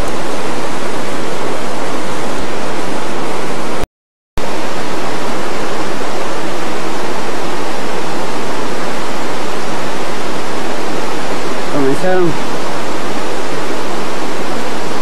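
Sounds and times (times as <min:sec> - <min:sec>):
fast-flowing river water rushing: 0:00.0 - 0:03.8, 0:04.4 - 0:15.0.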